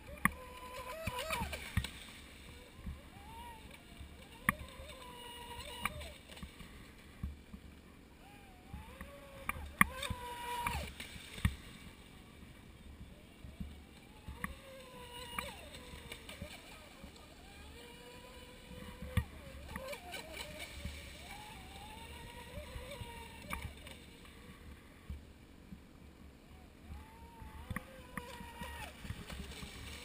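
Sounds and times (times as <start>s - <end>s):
electric boat motor whining: 0.0s - 6.5s, 8.1s - 25.2s, 26.5s - 30.0s.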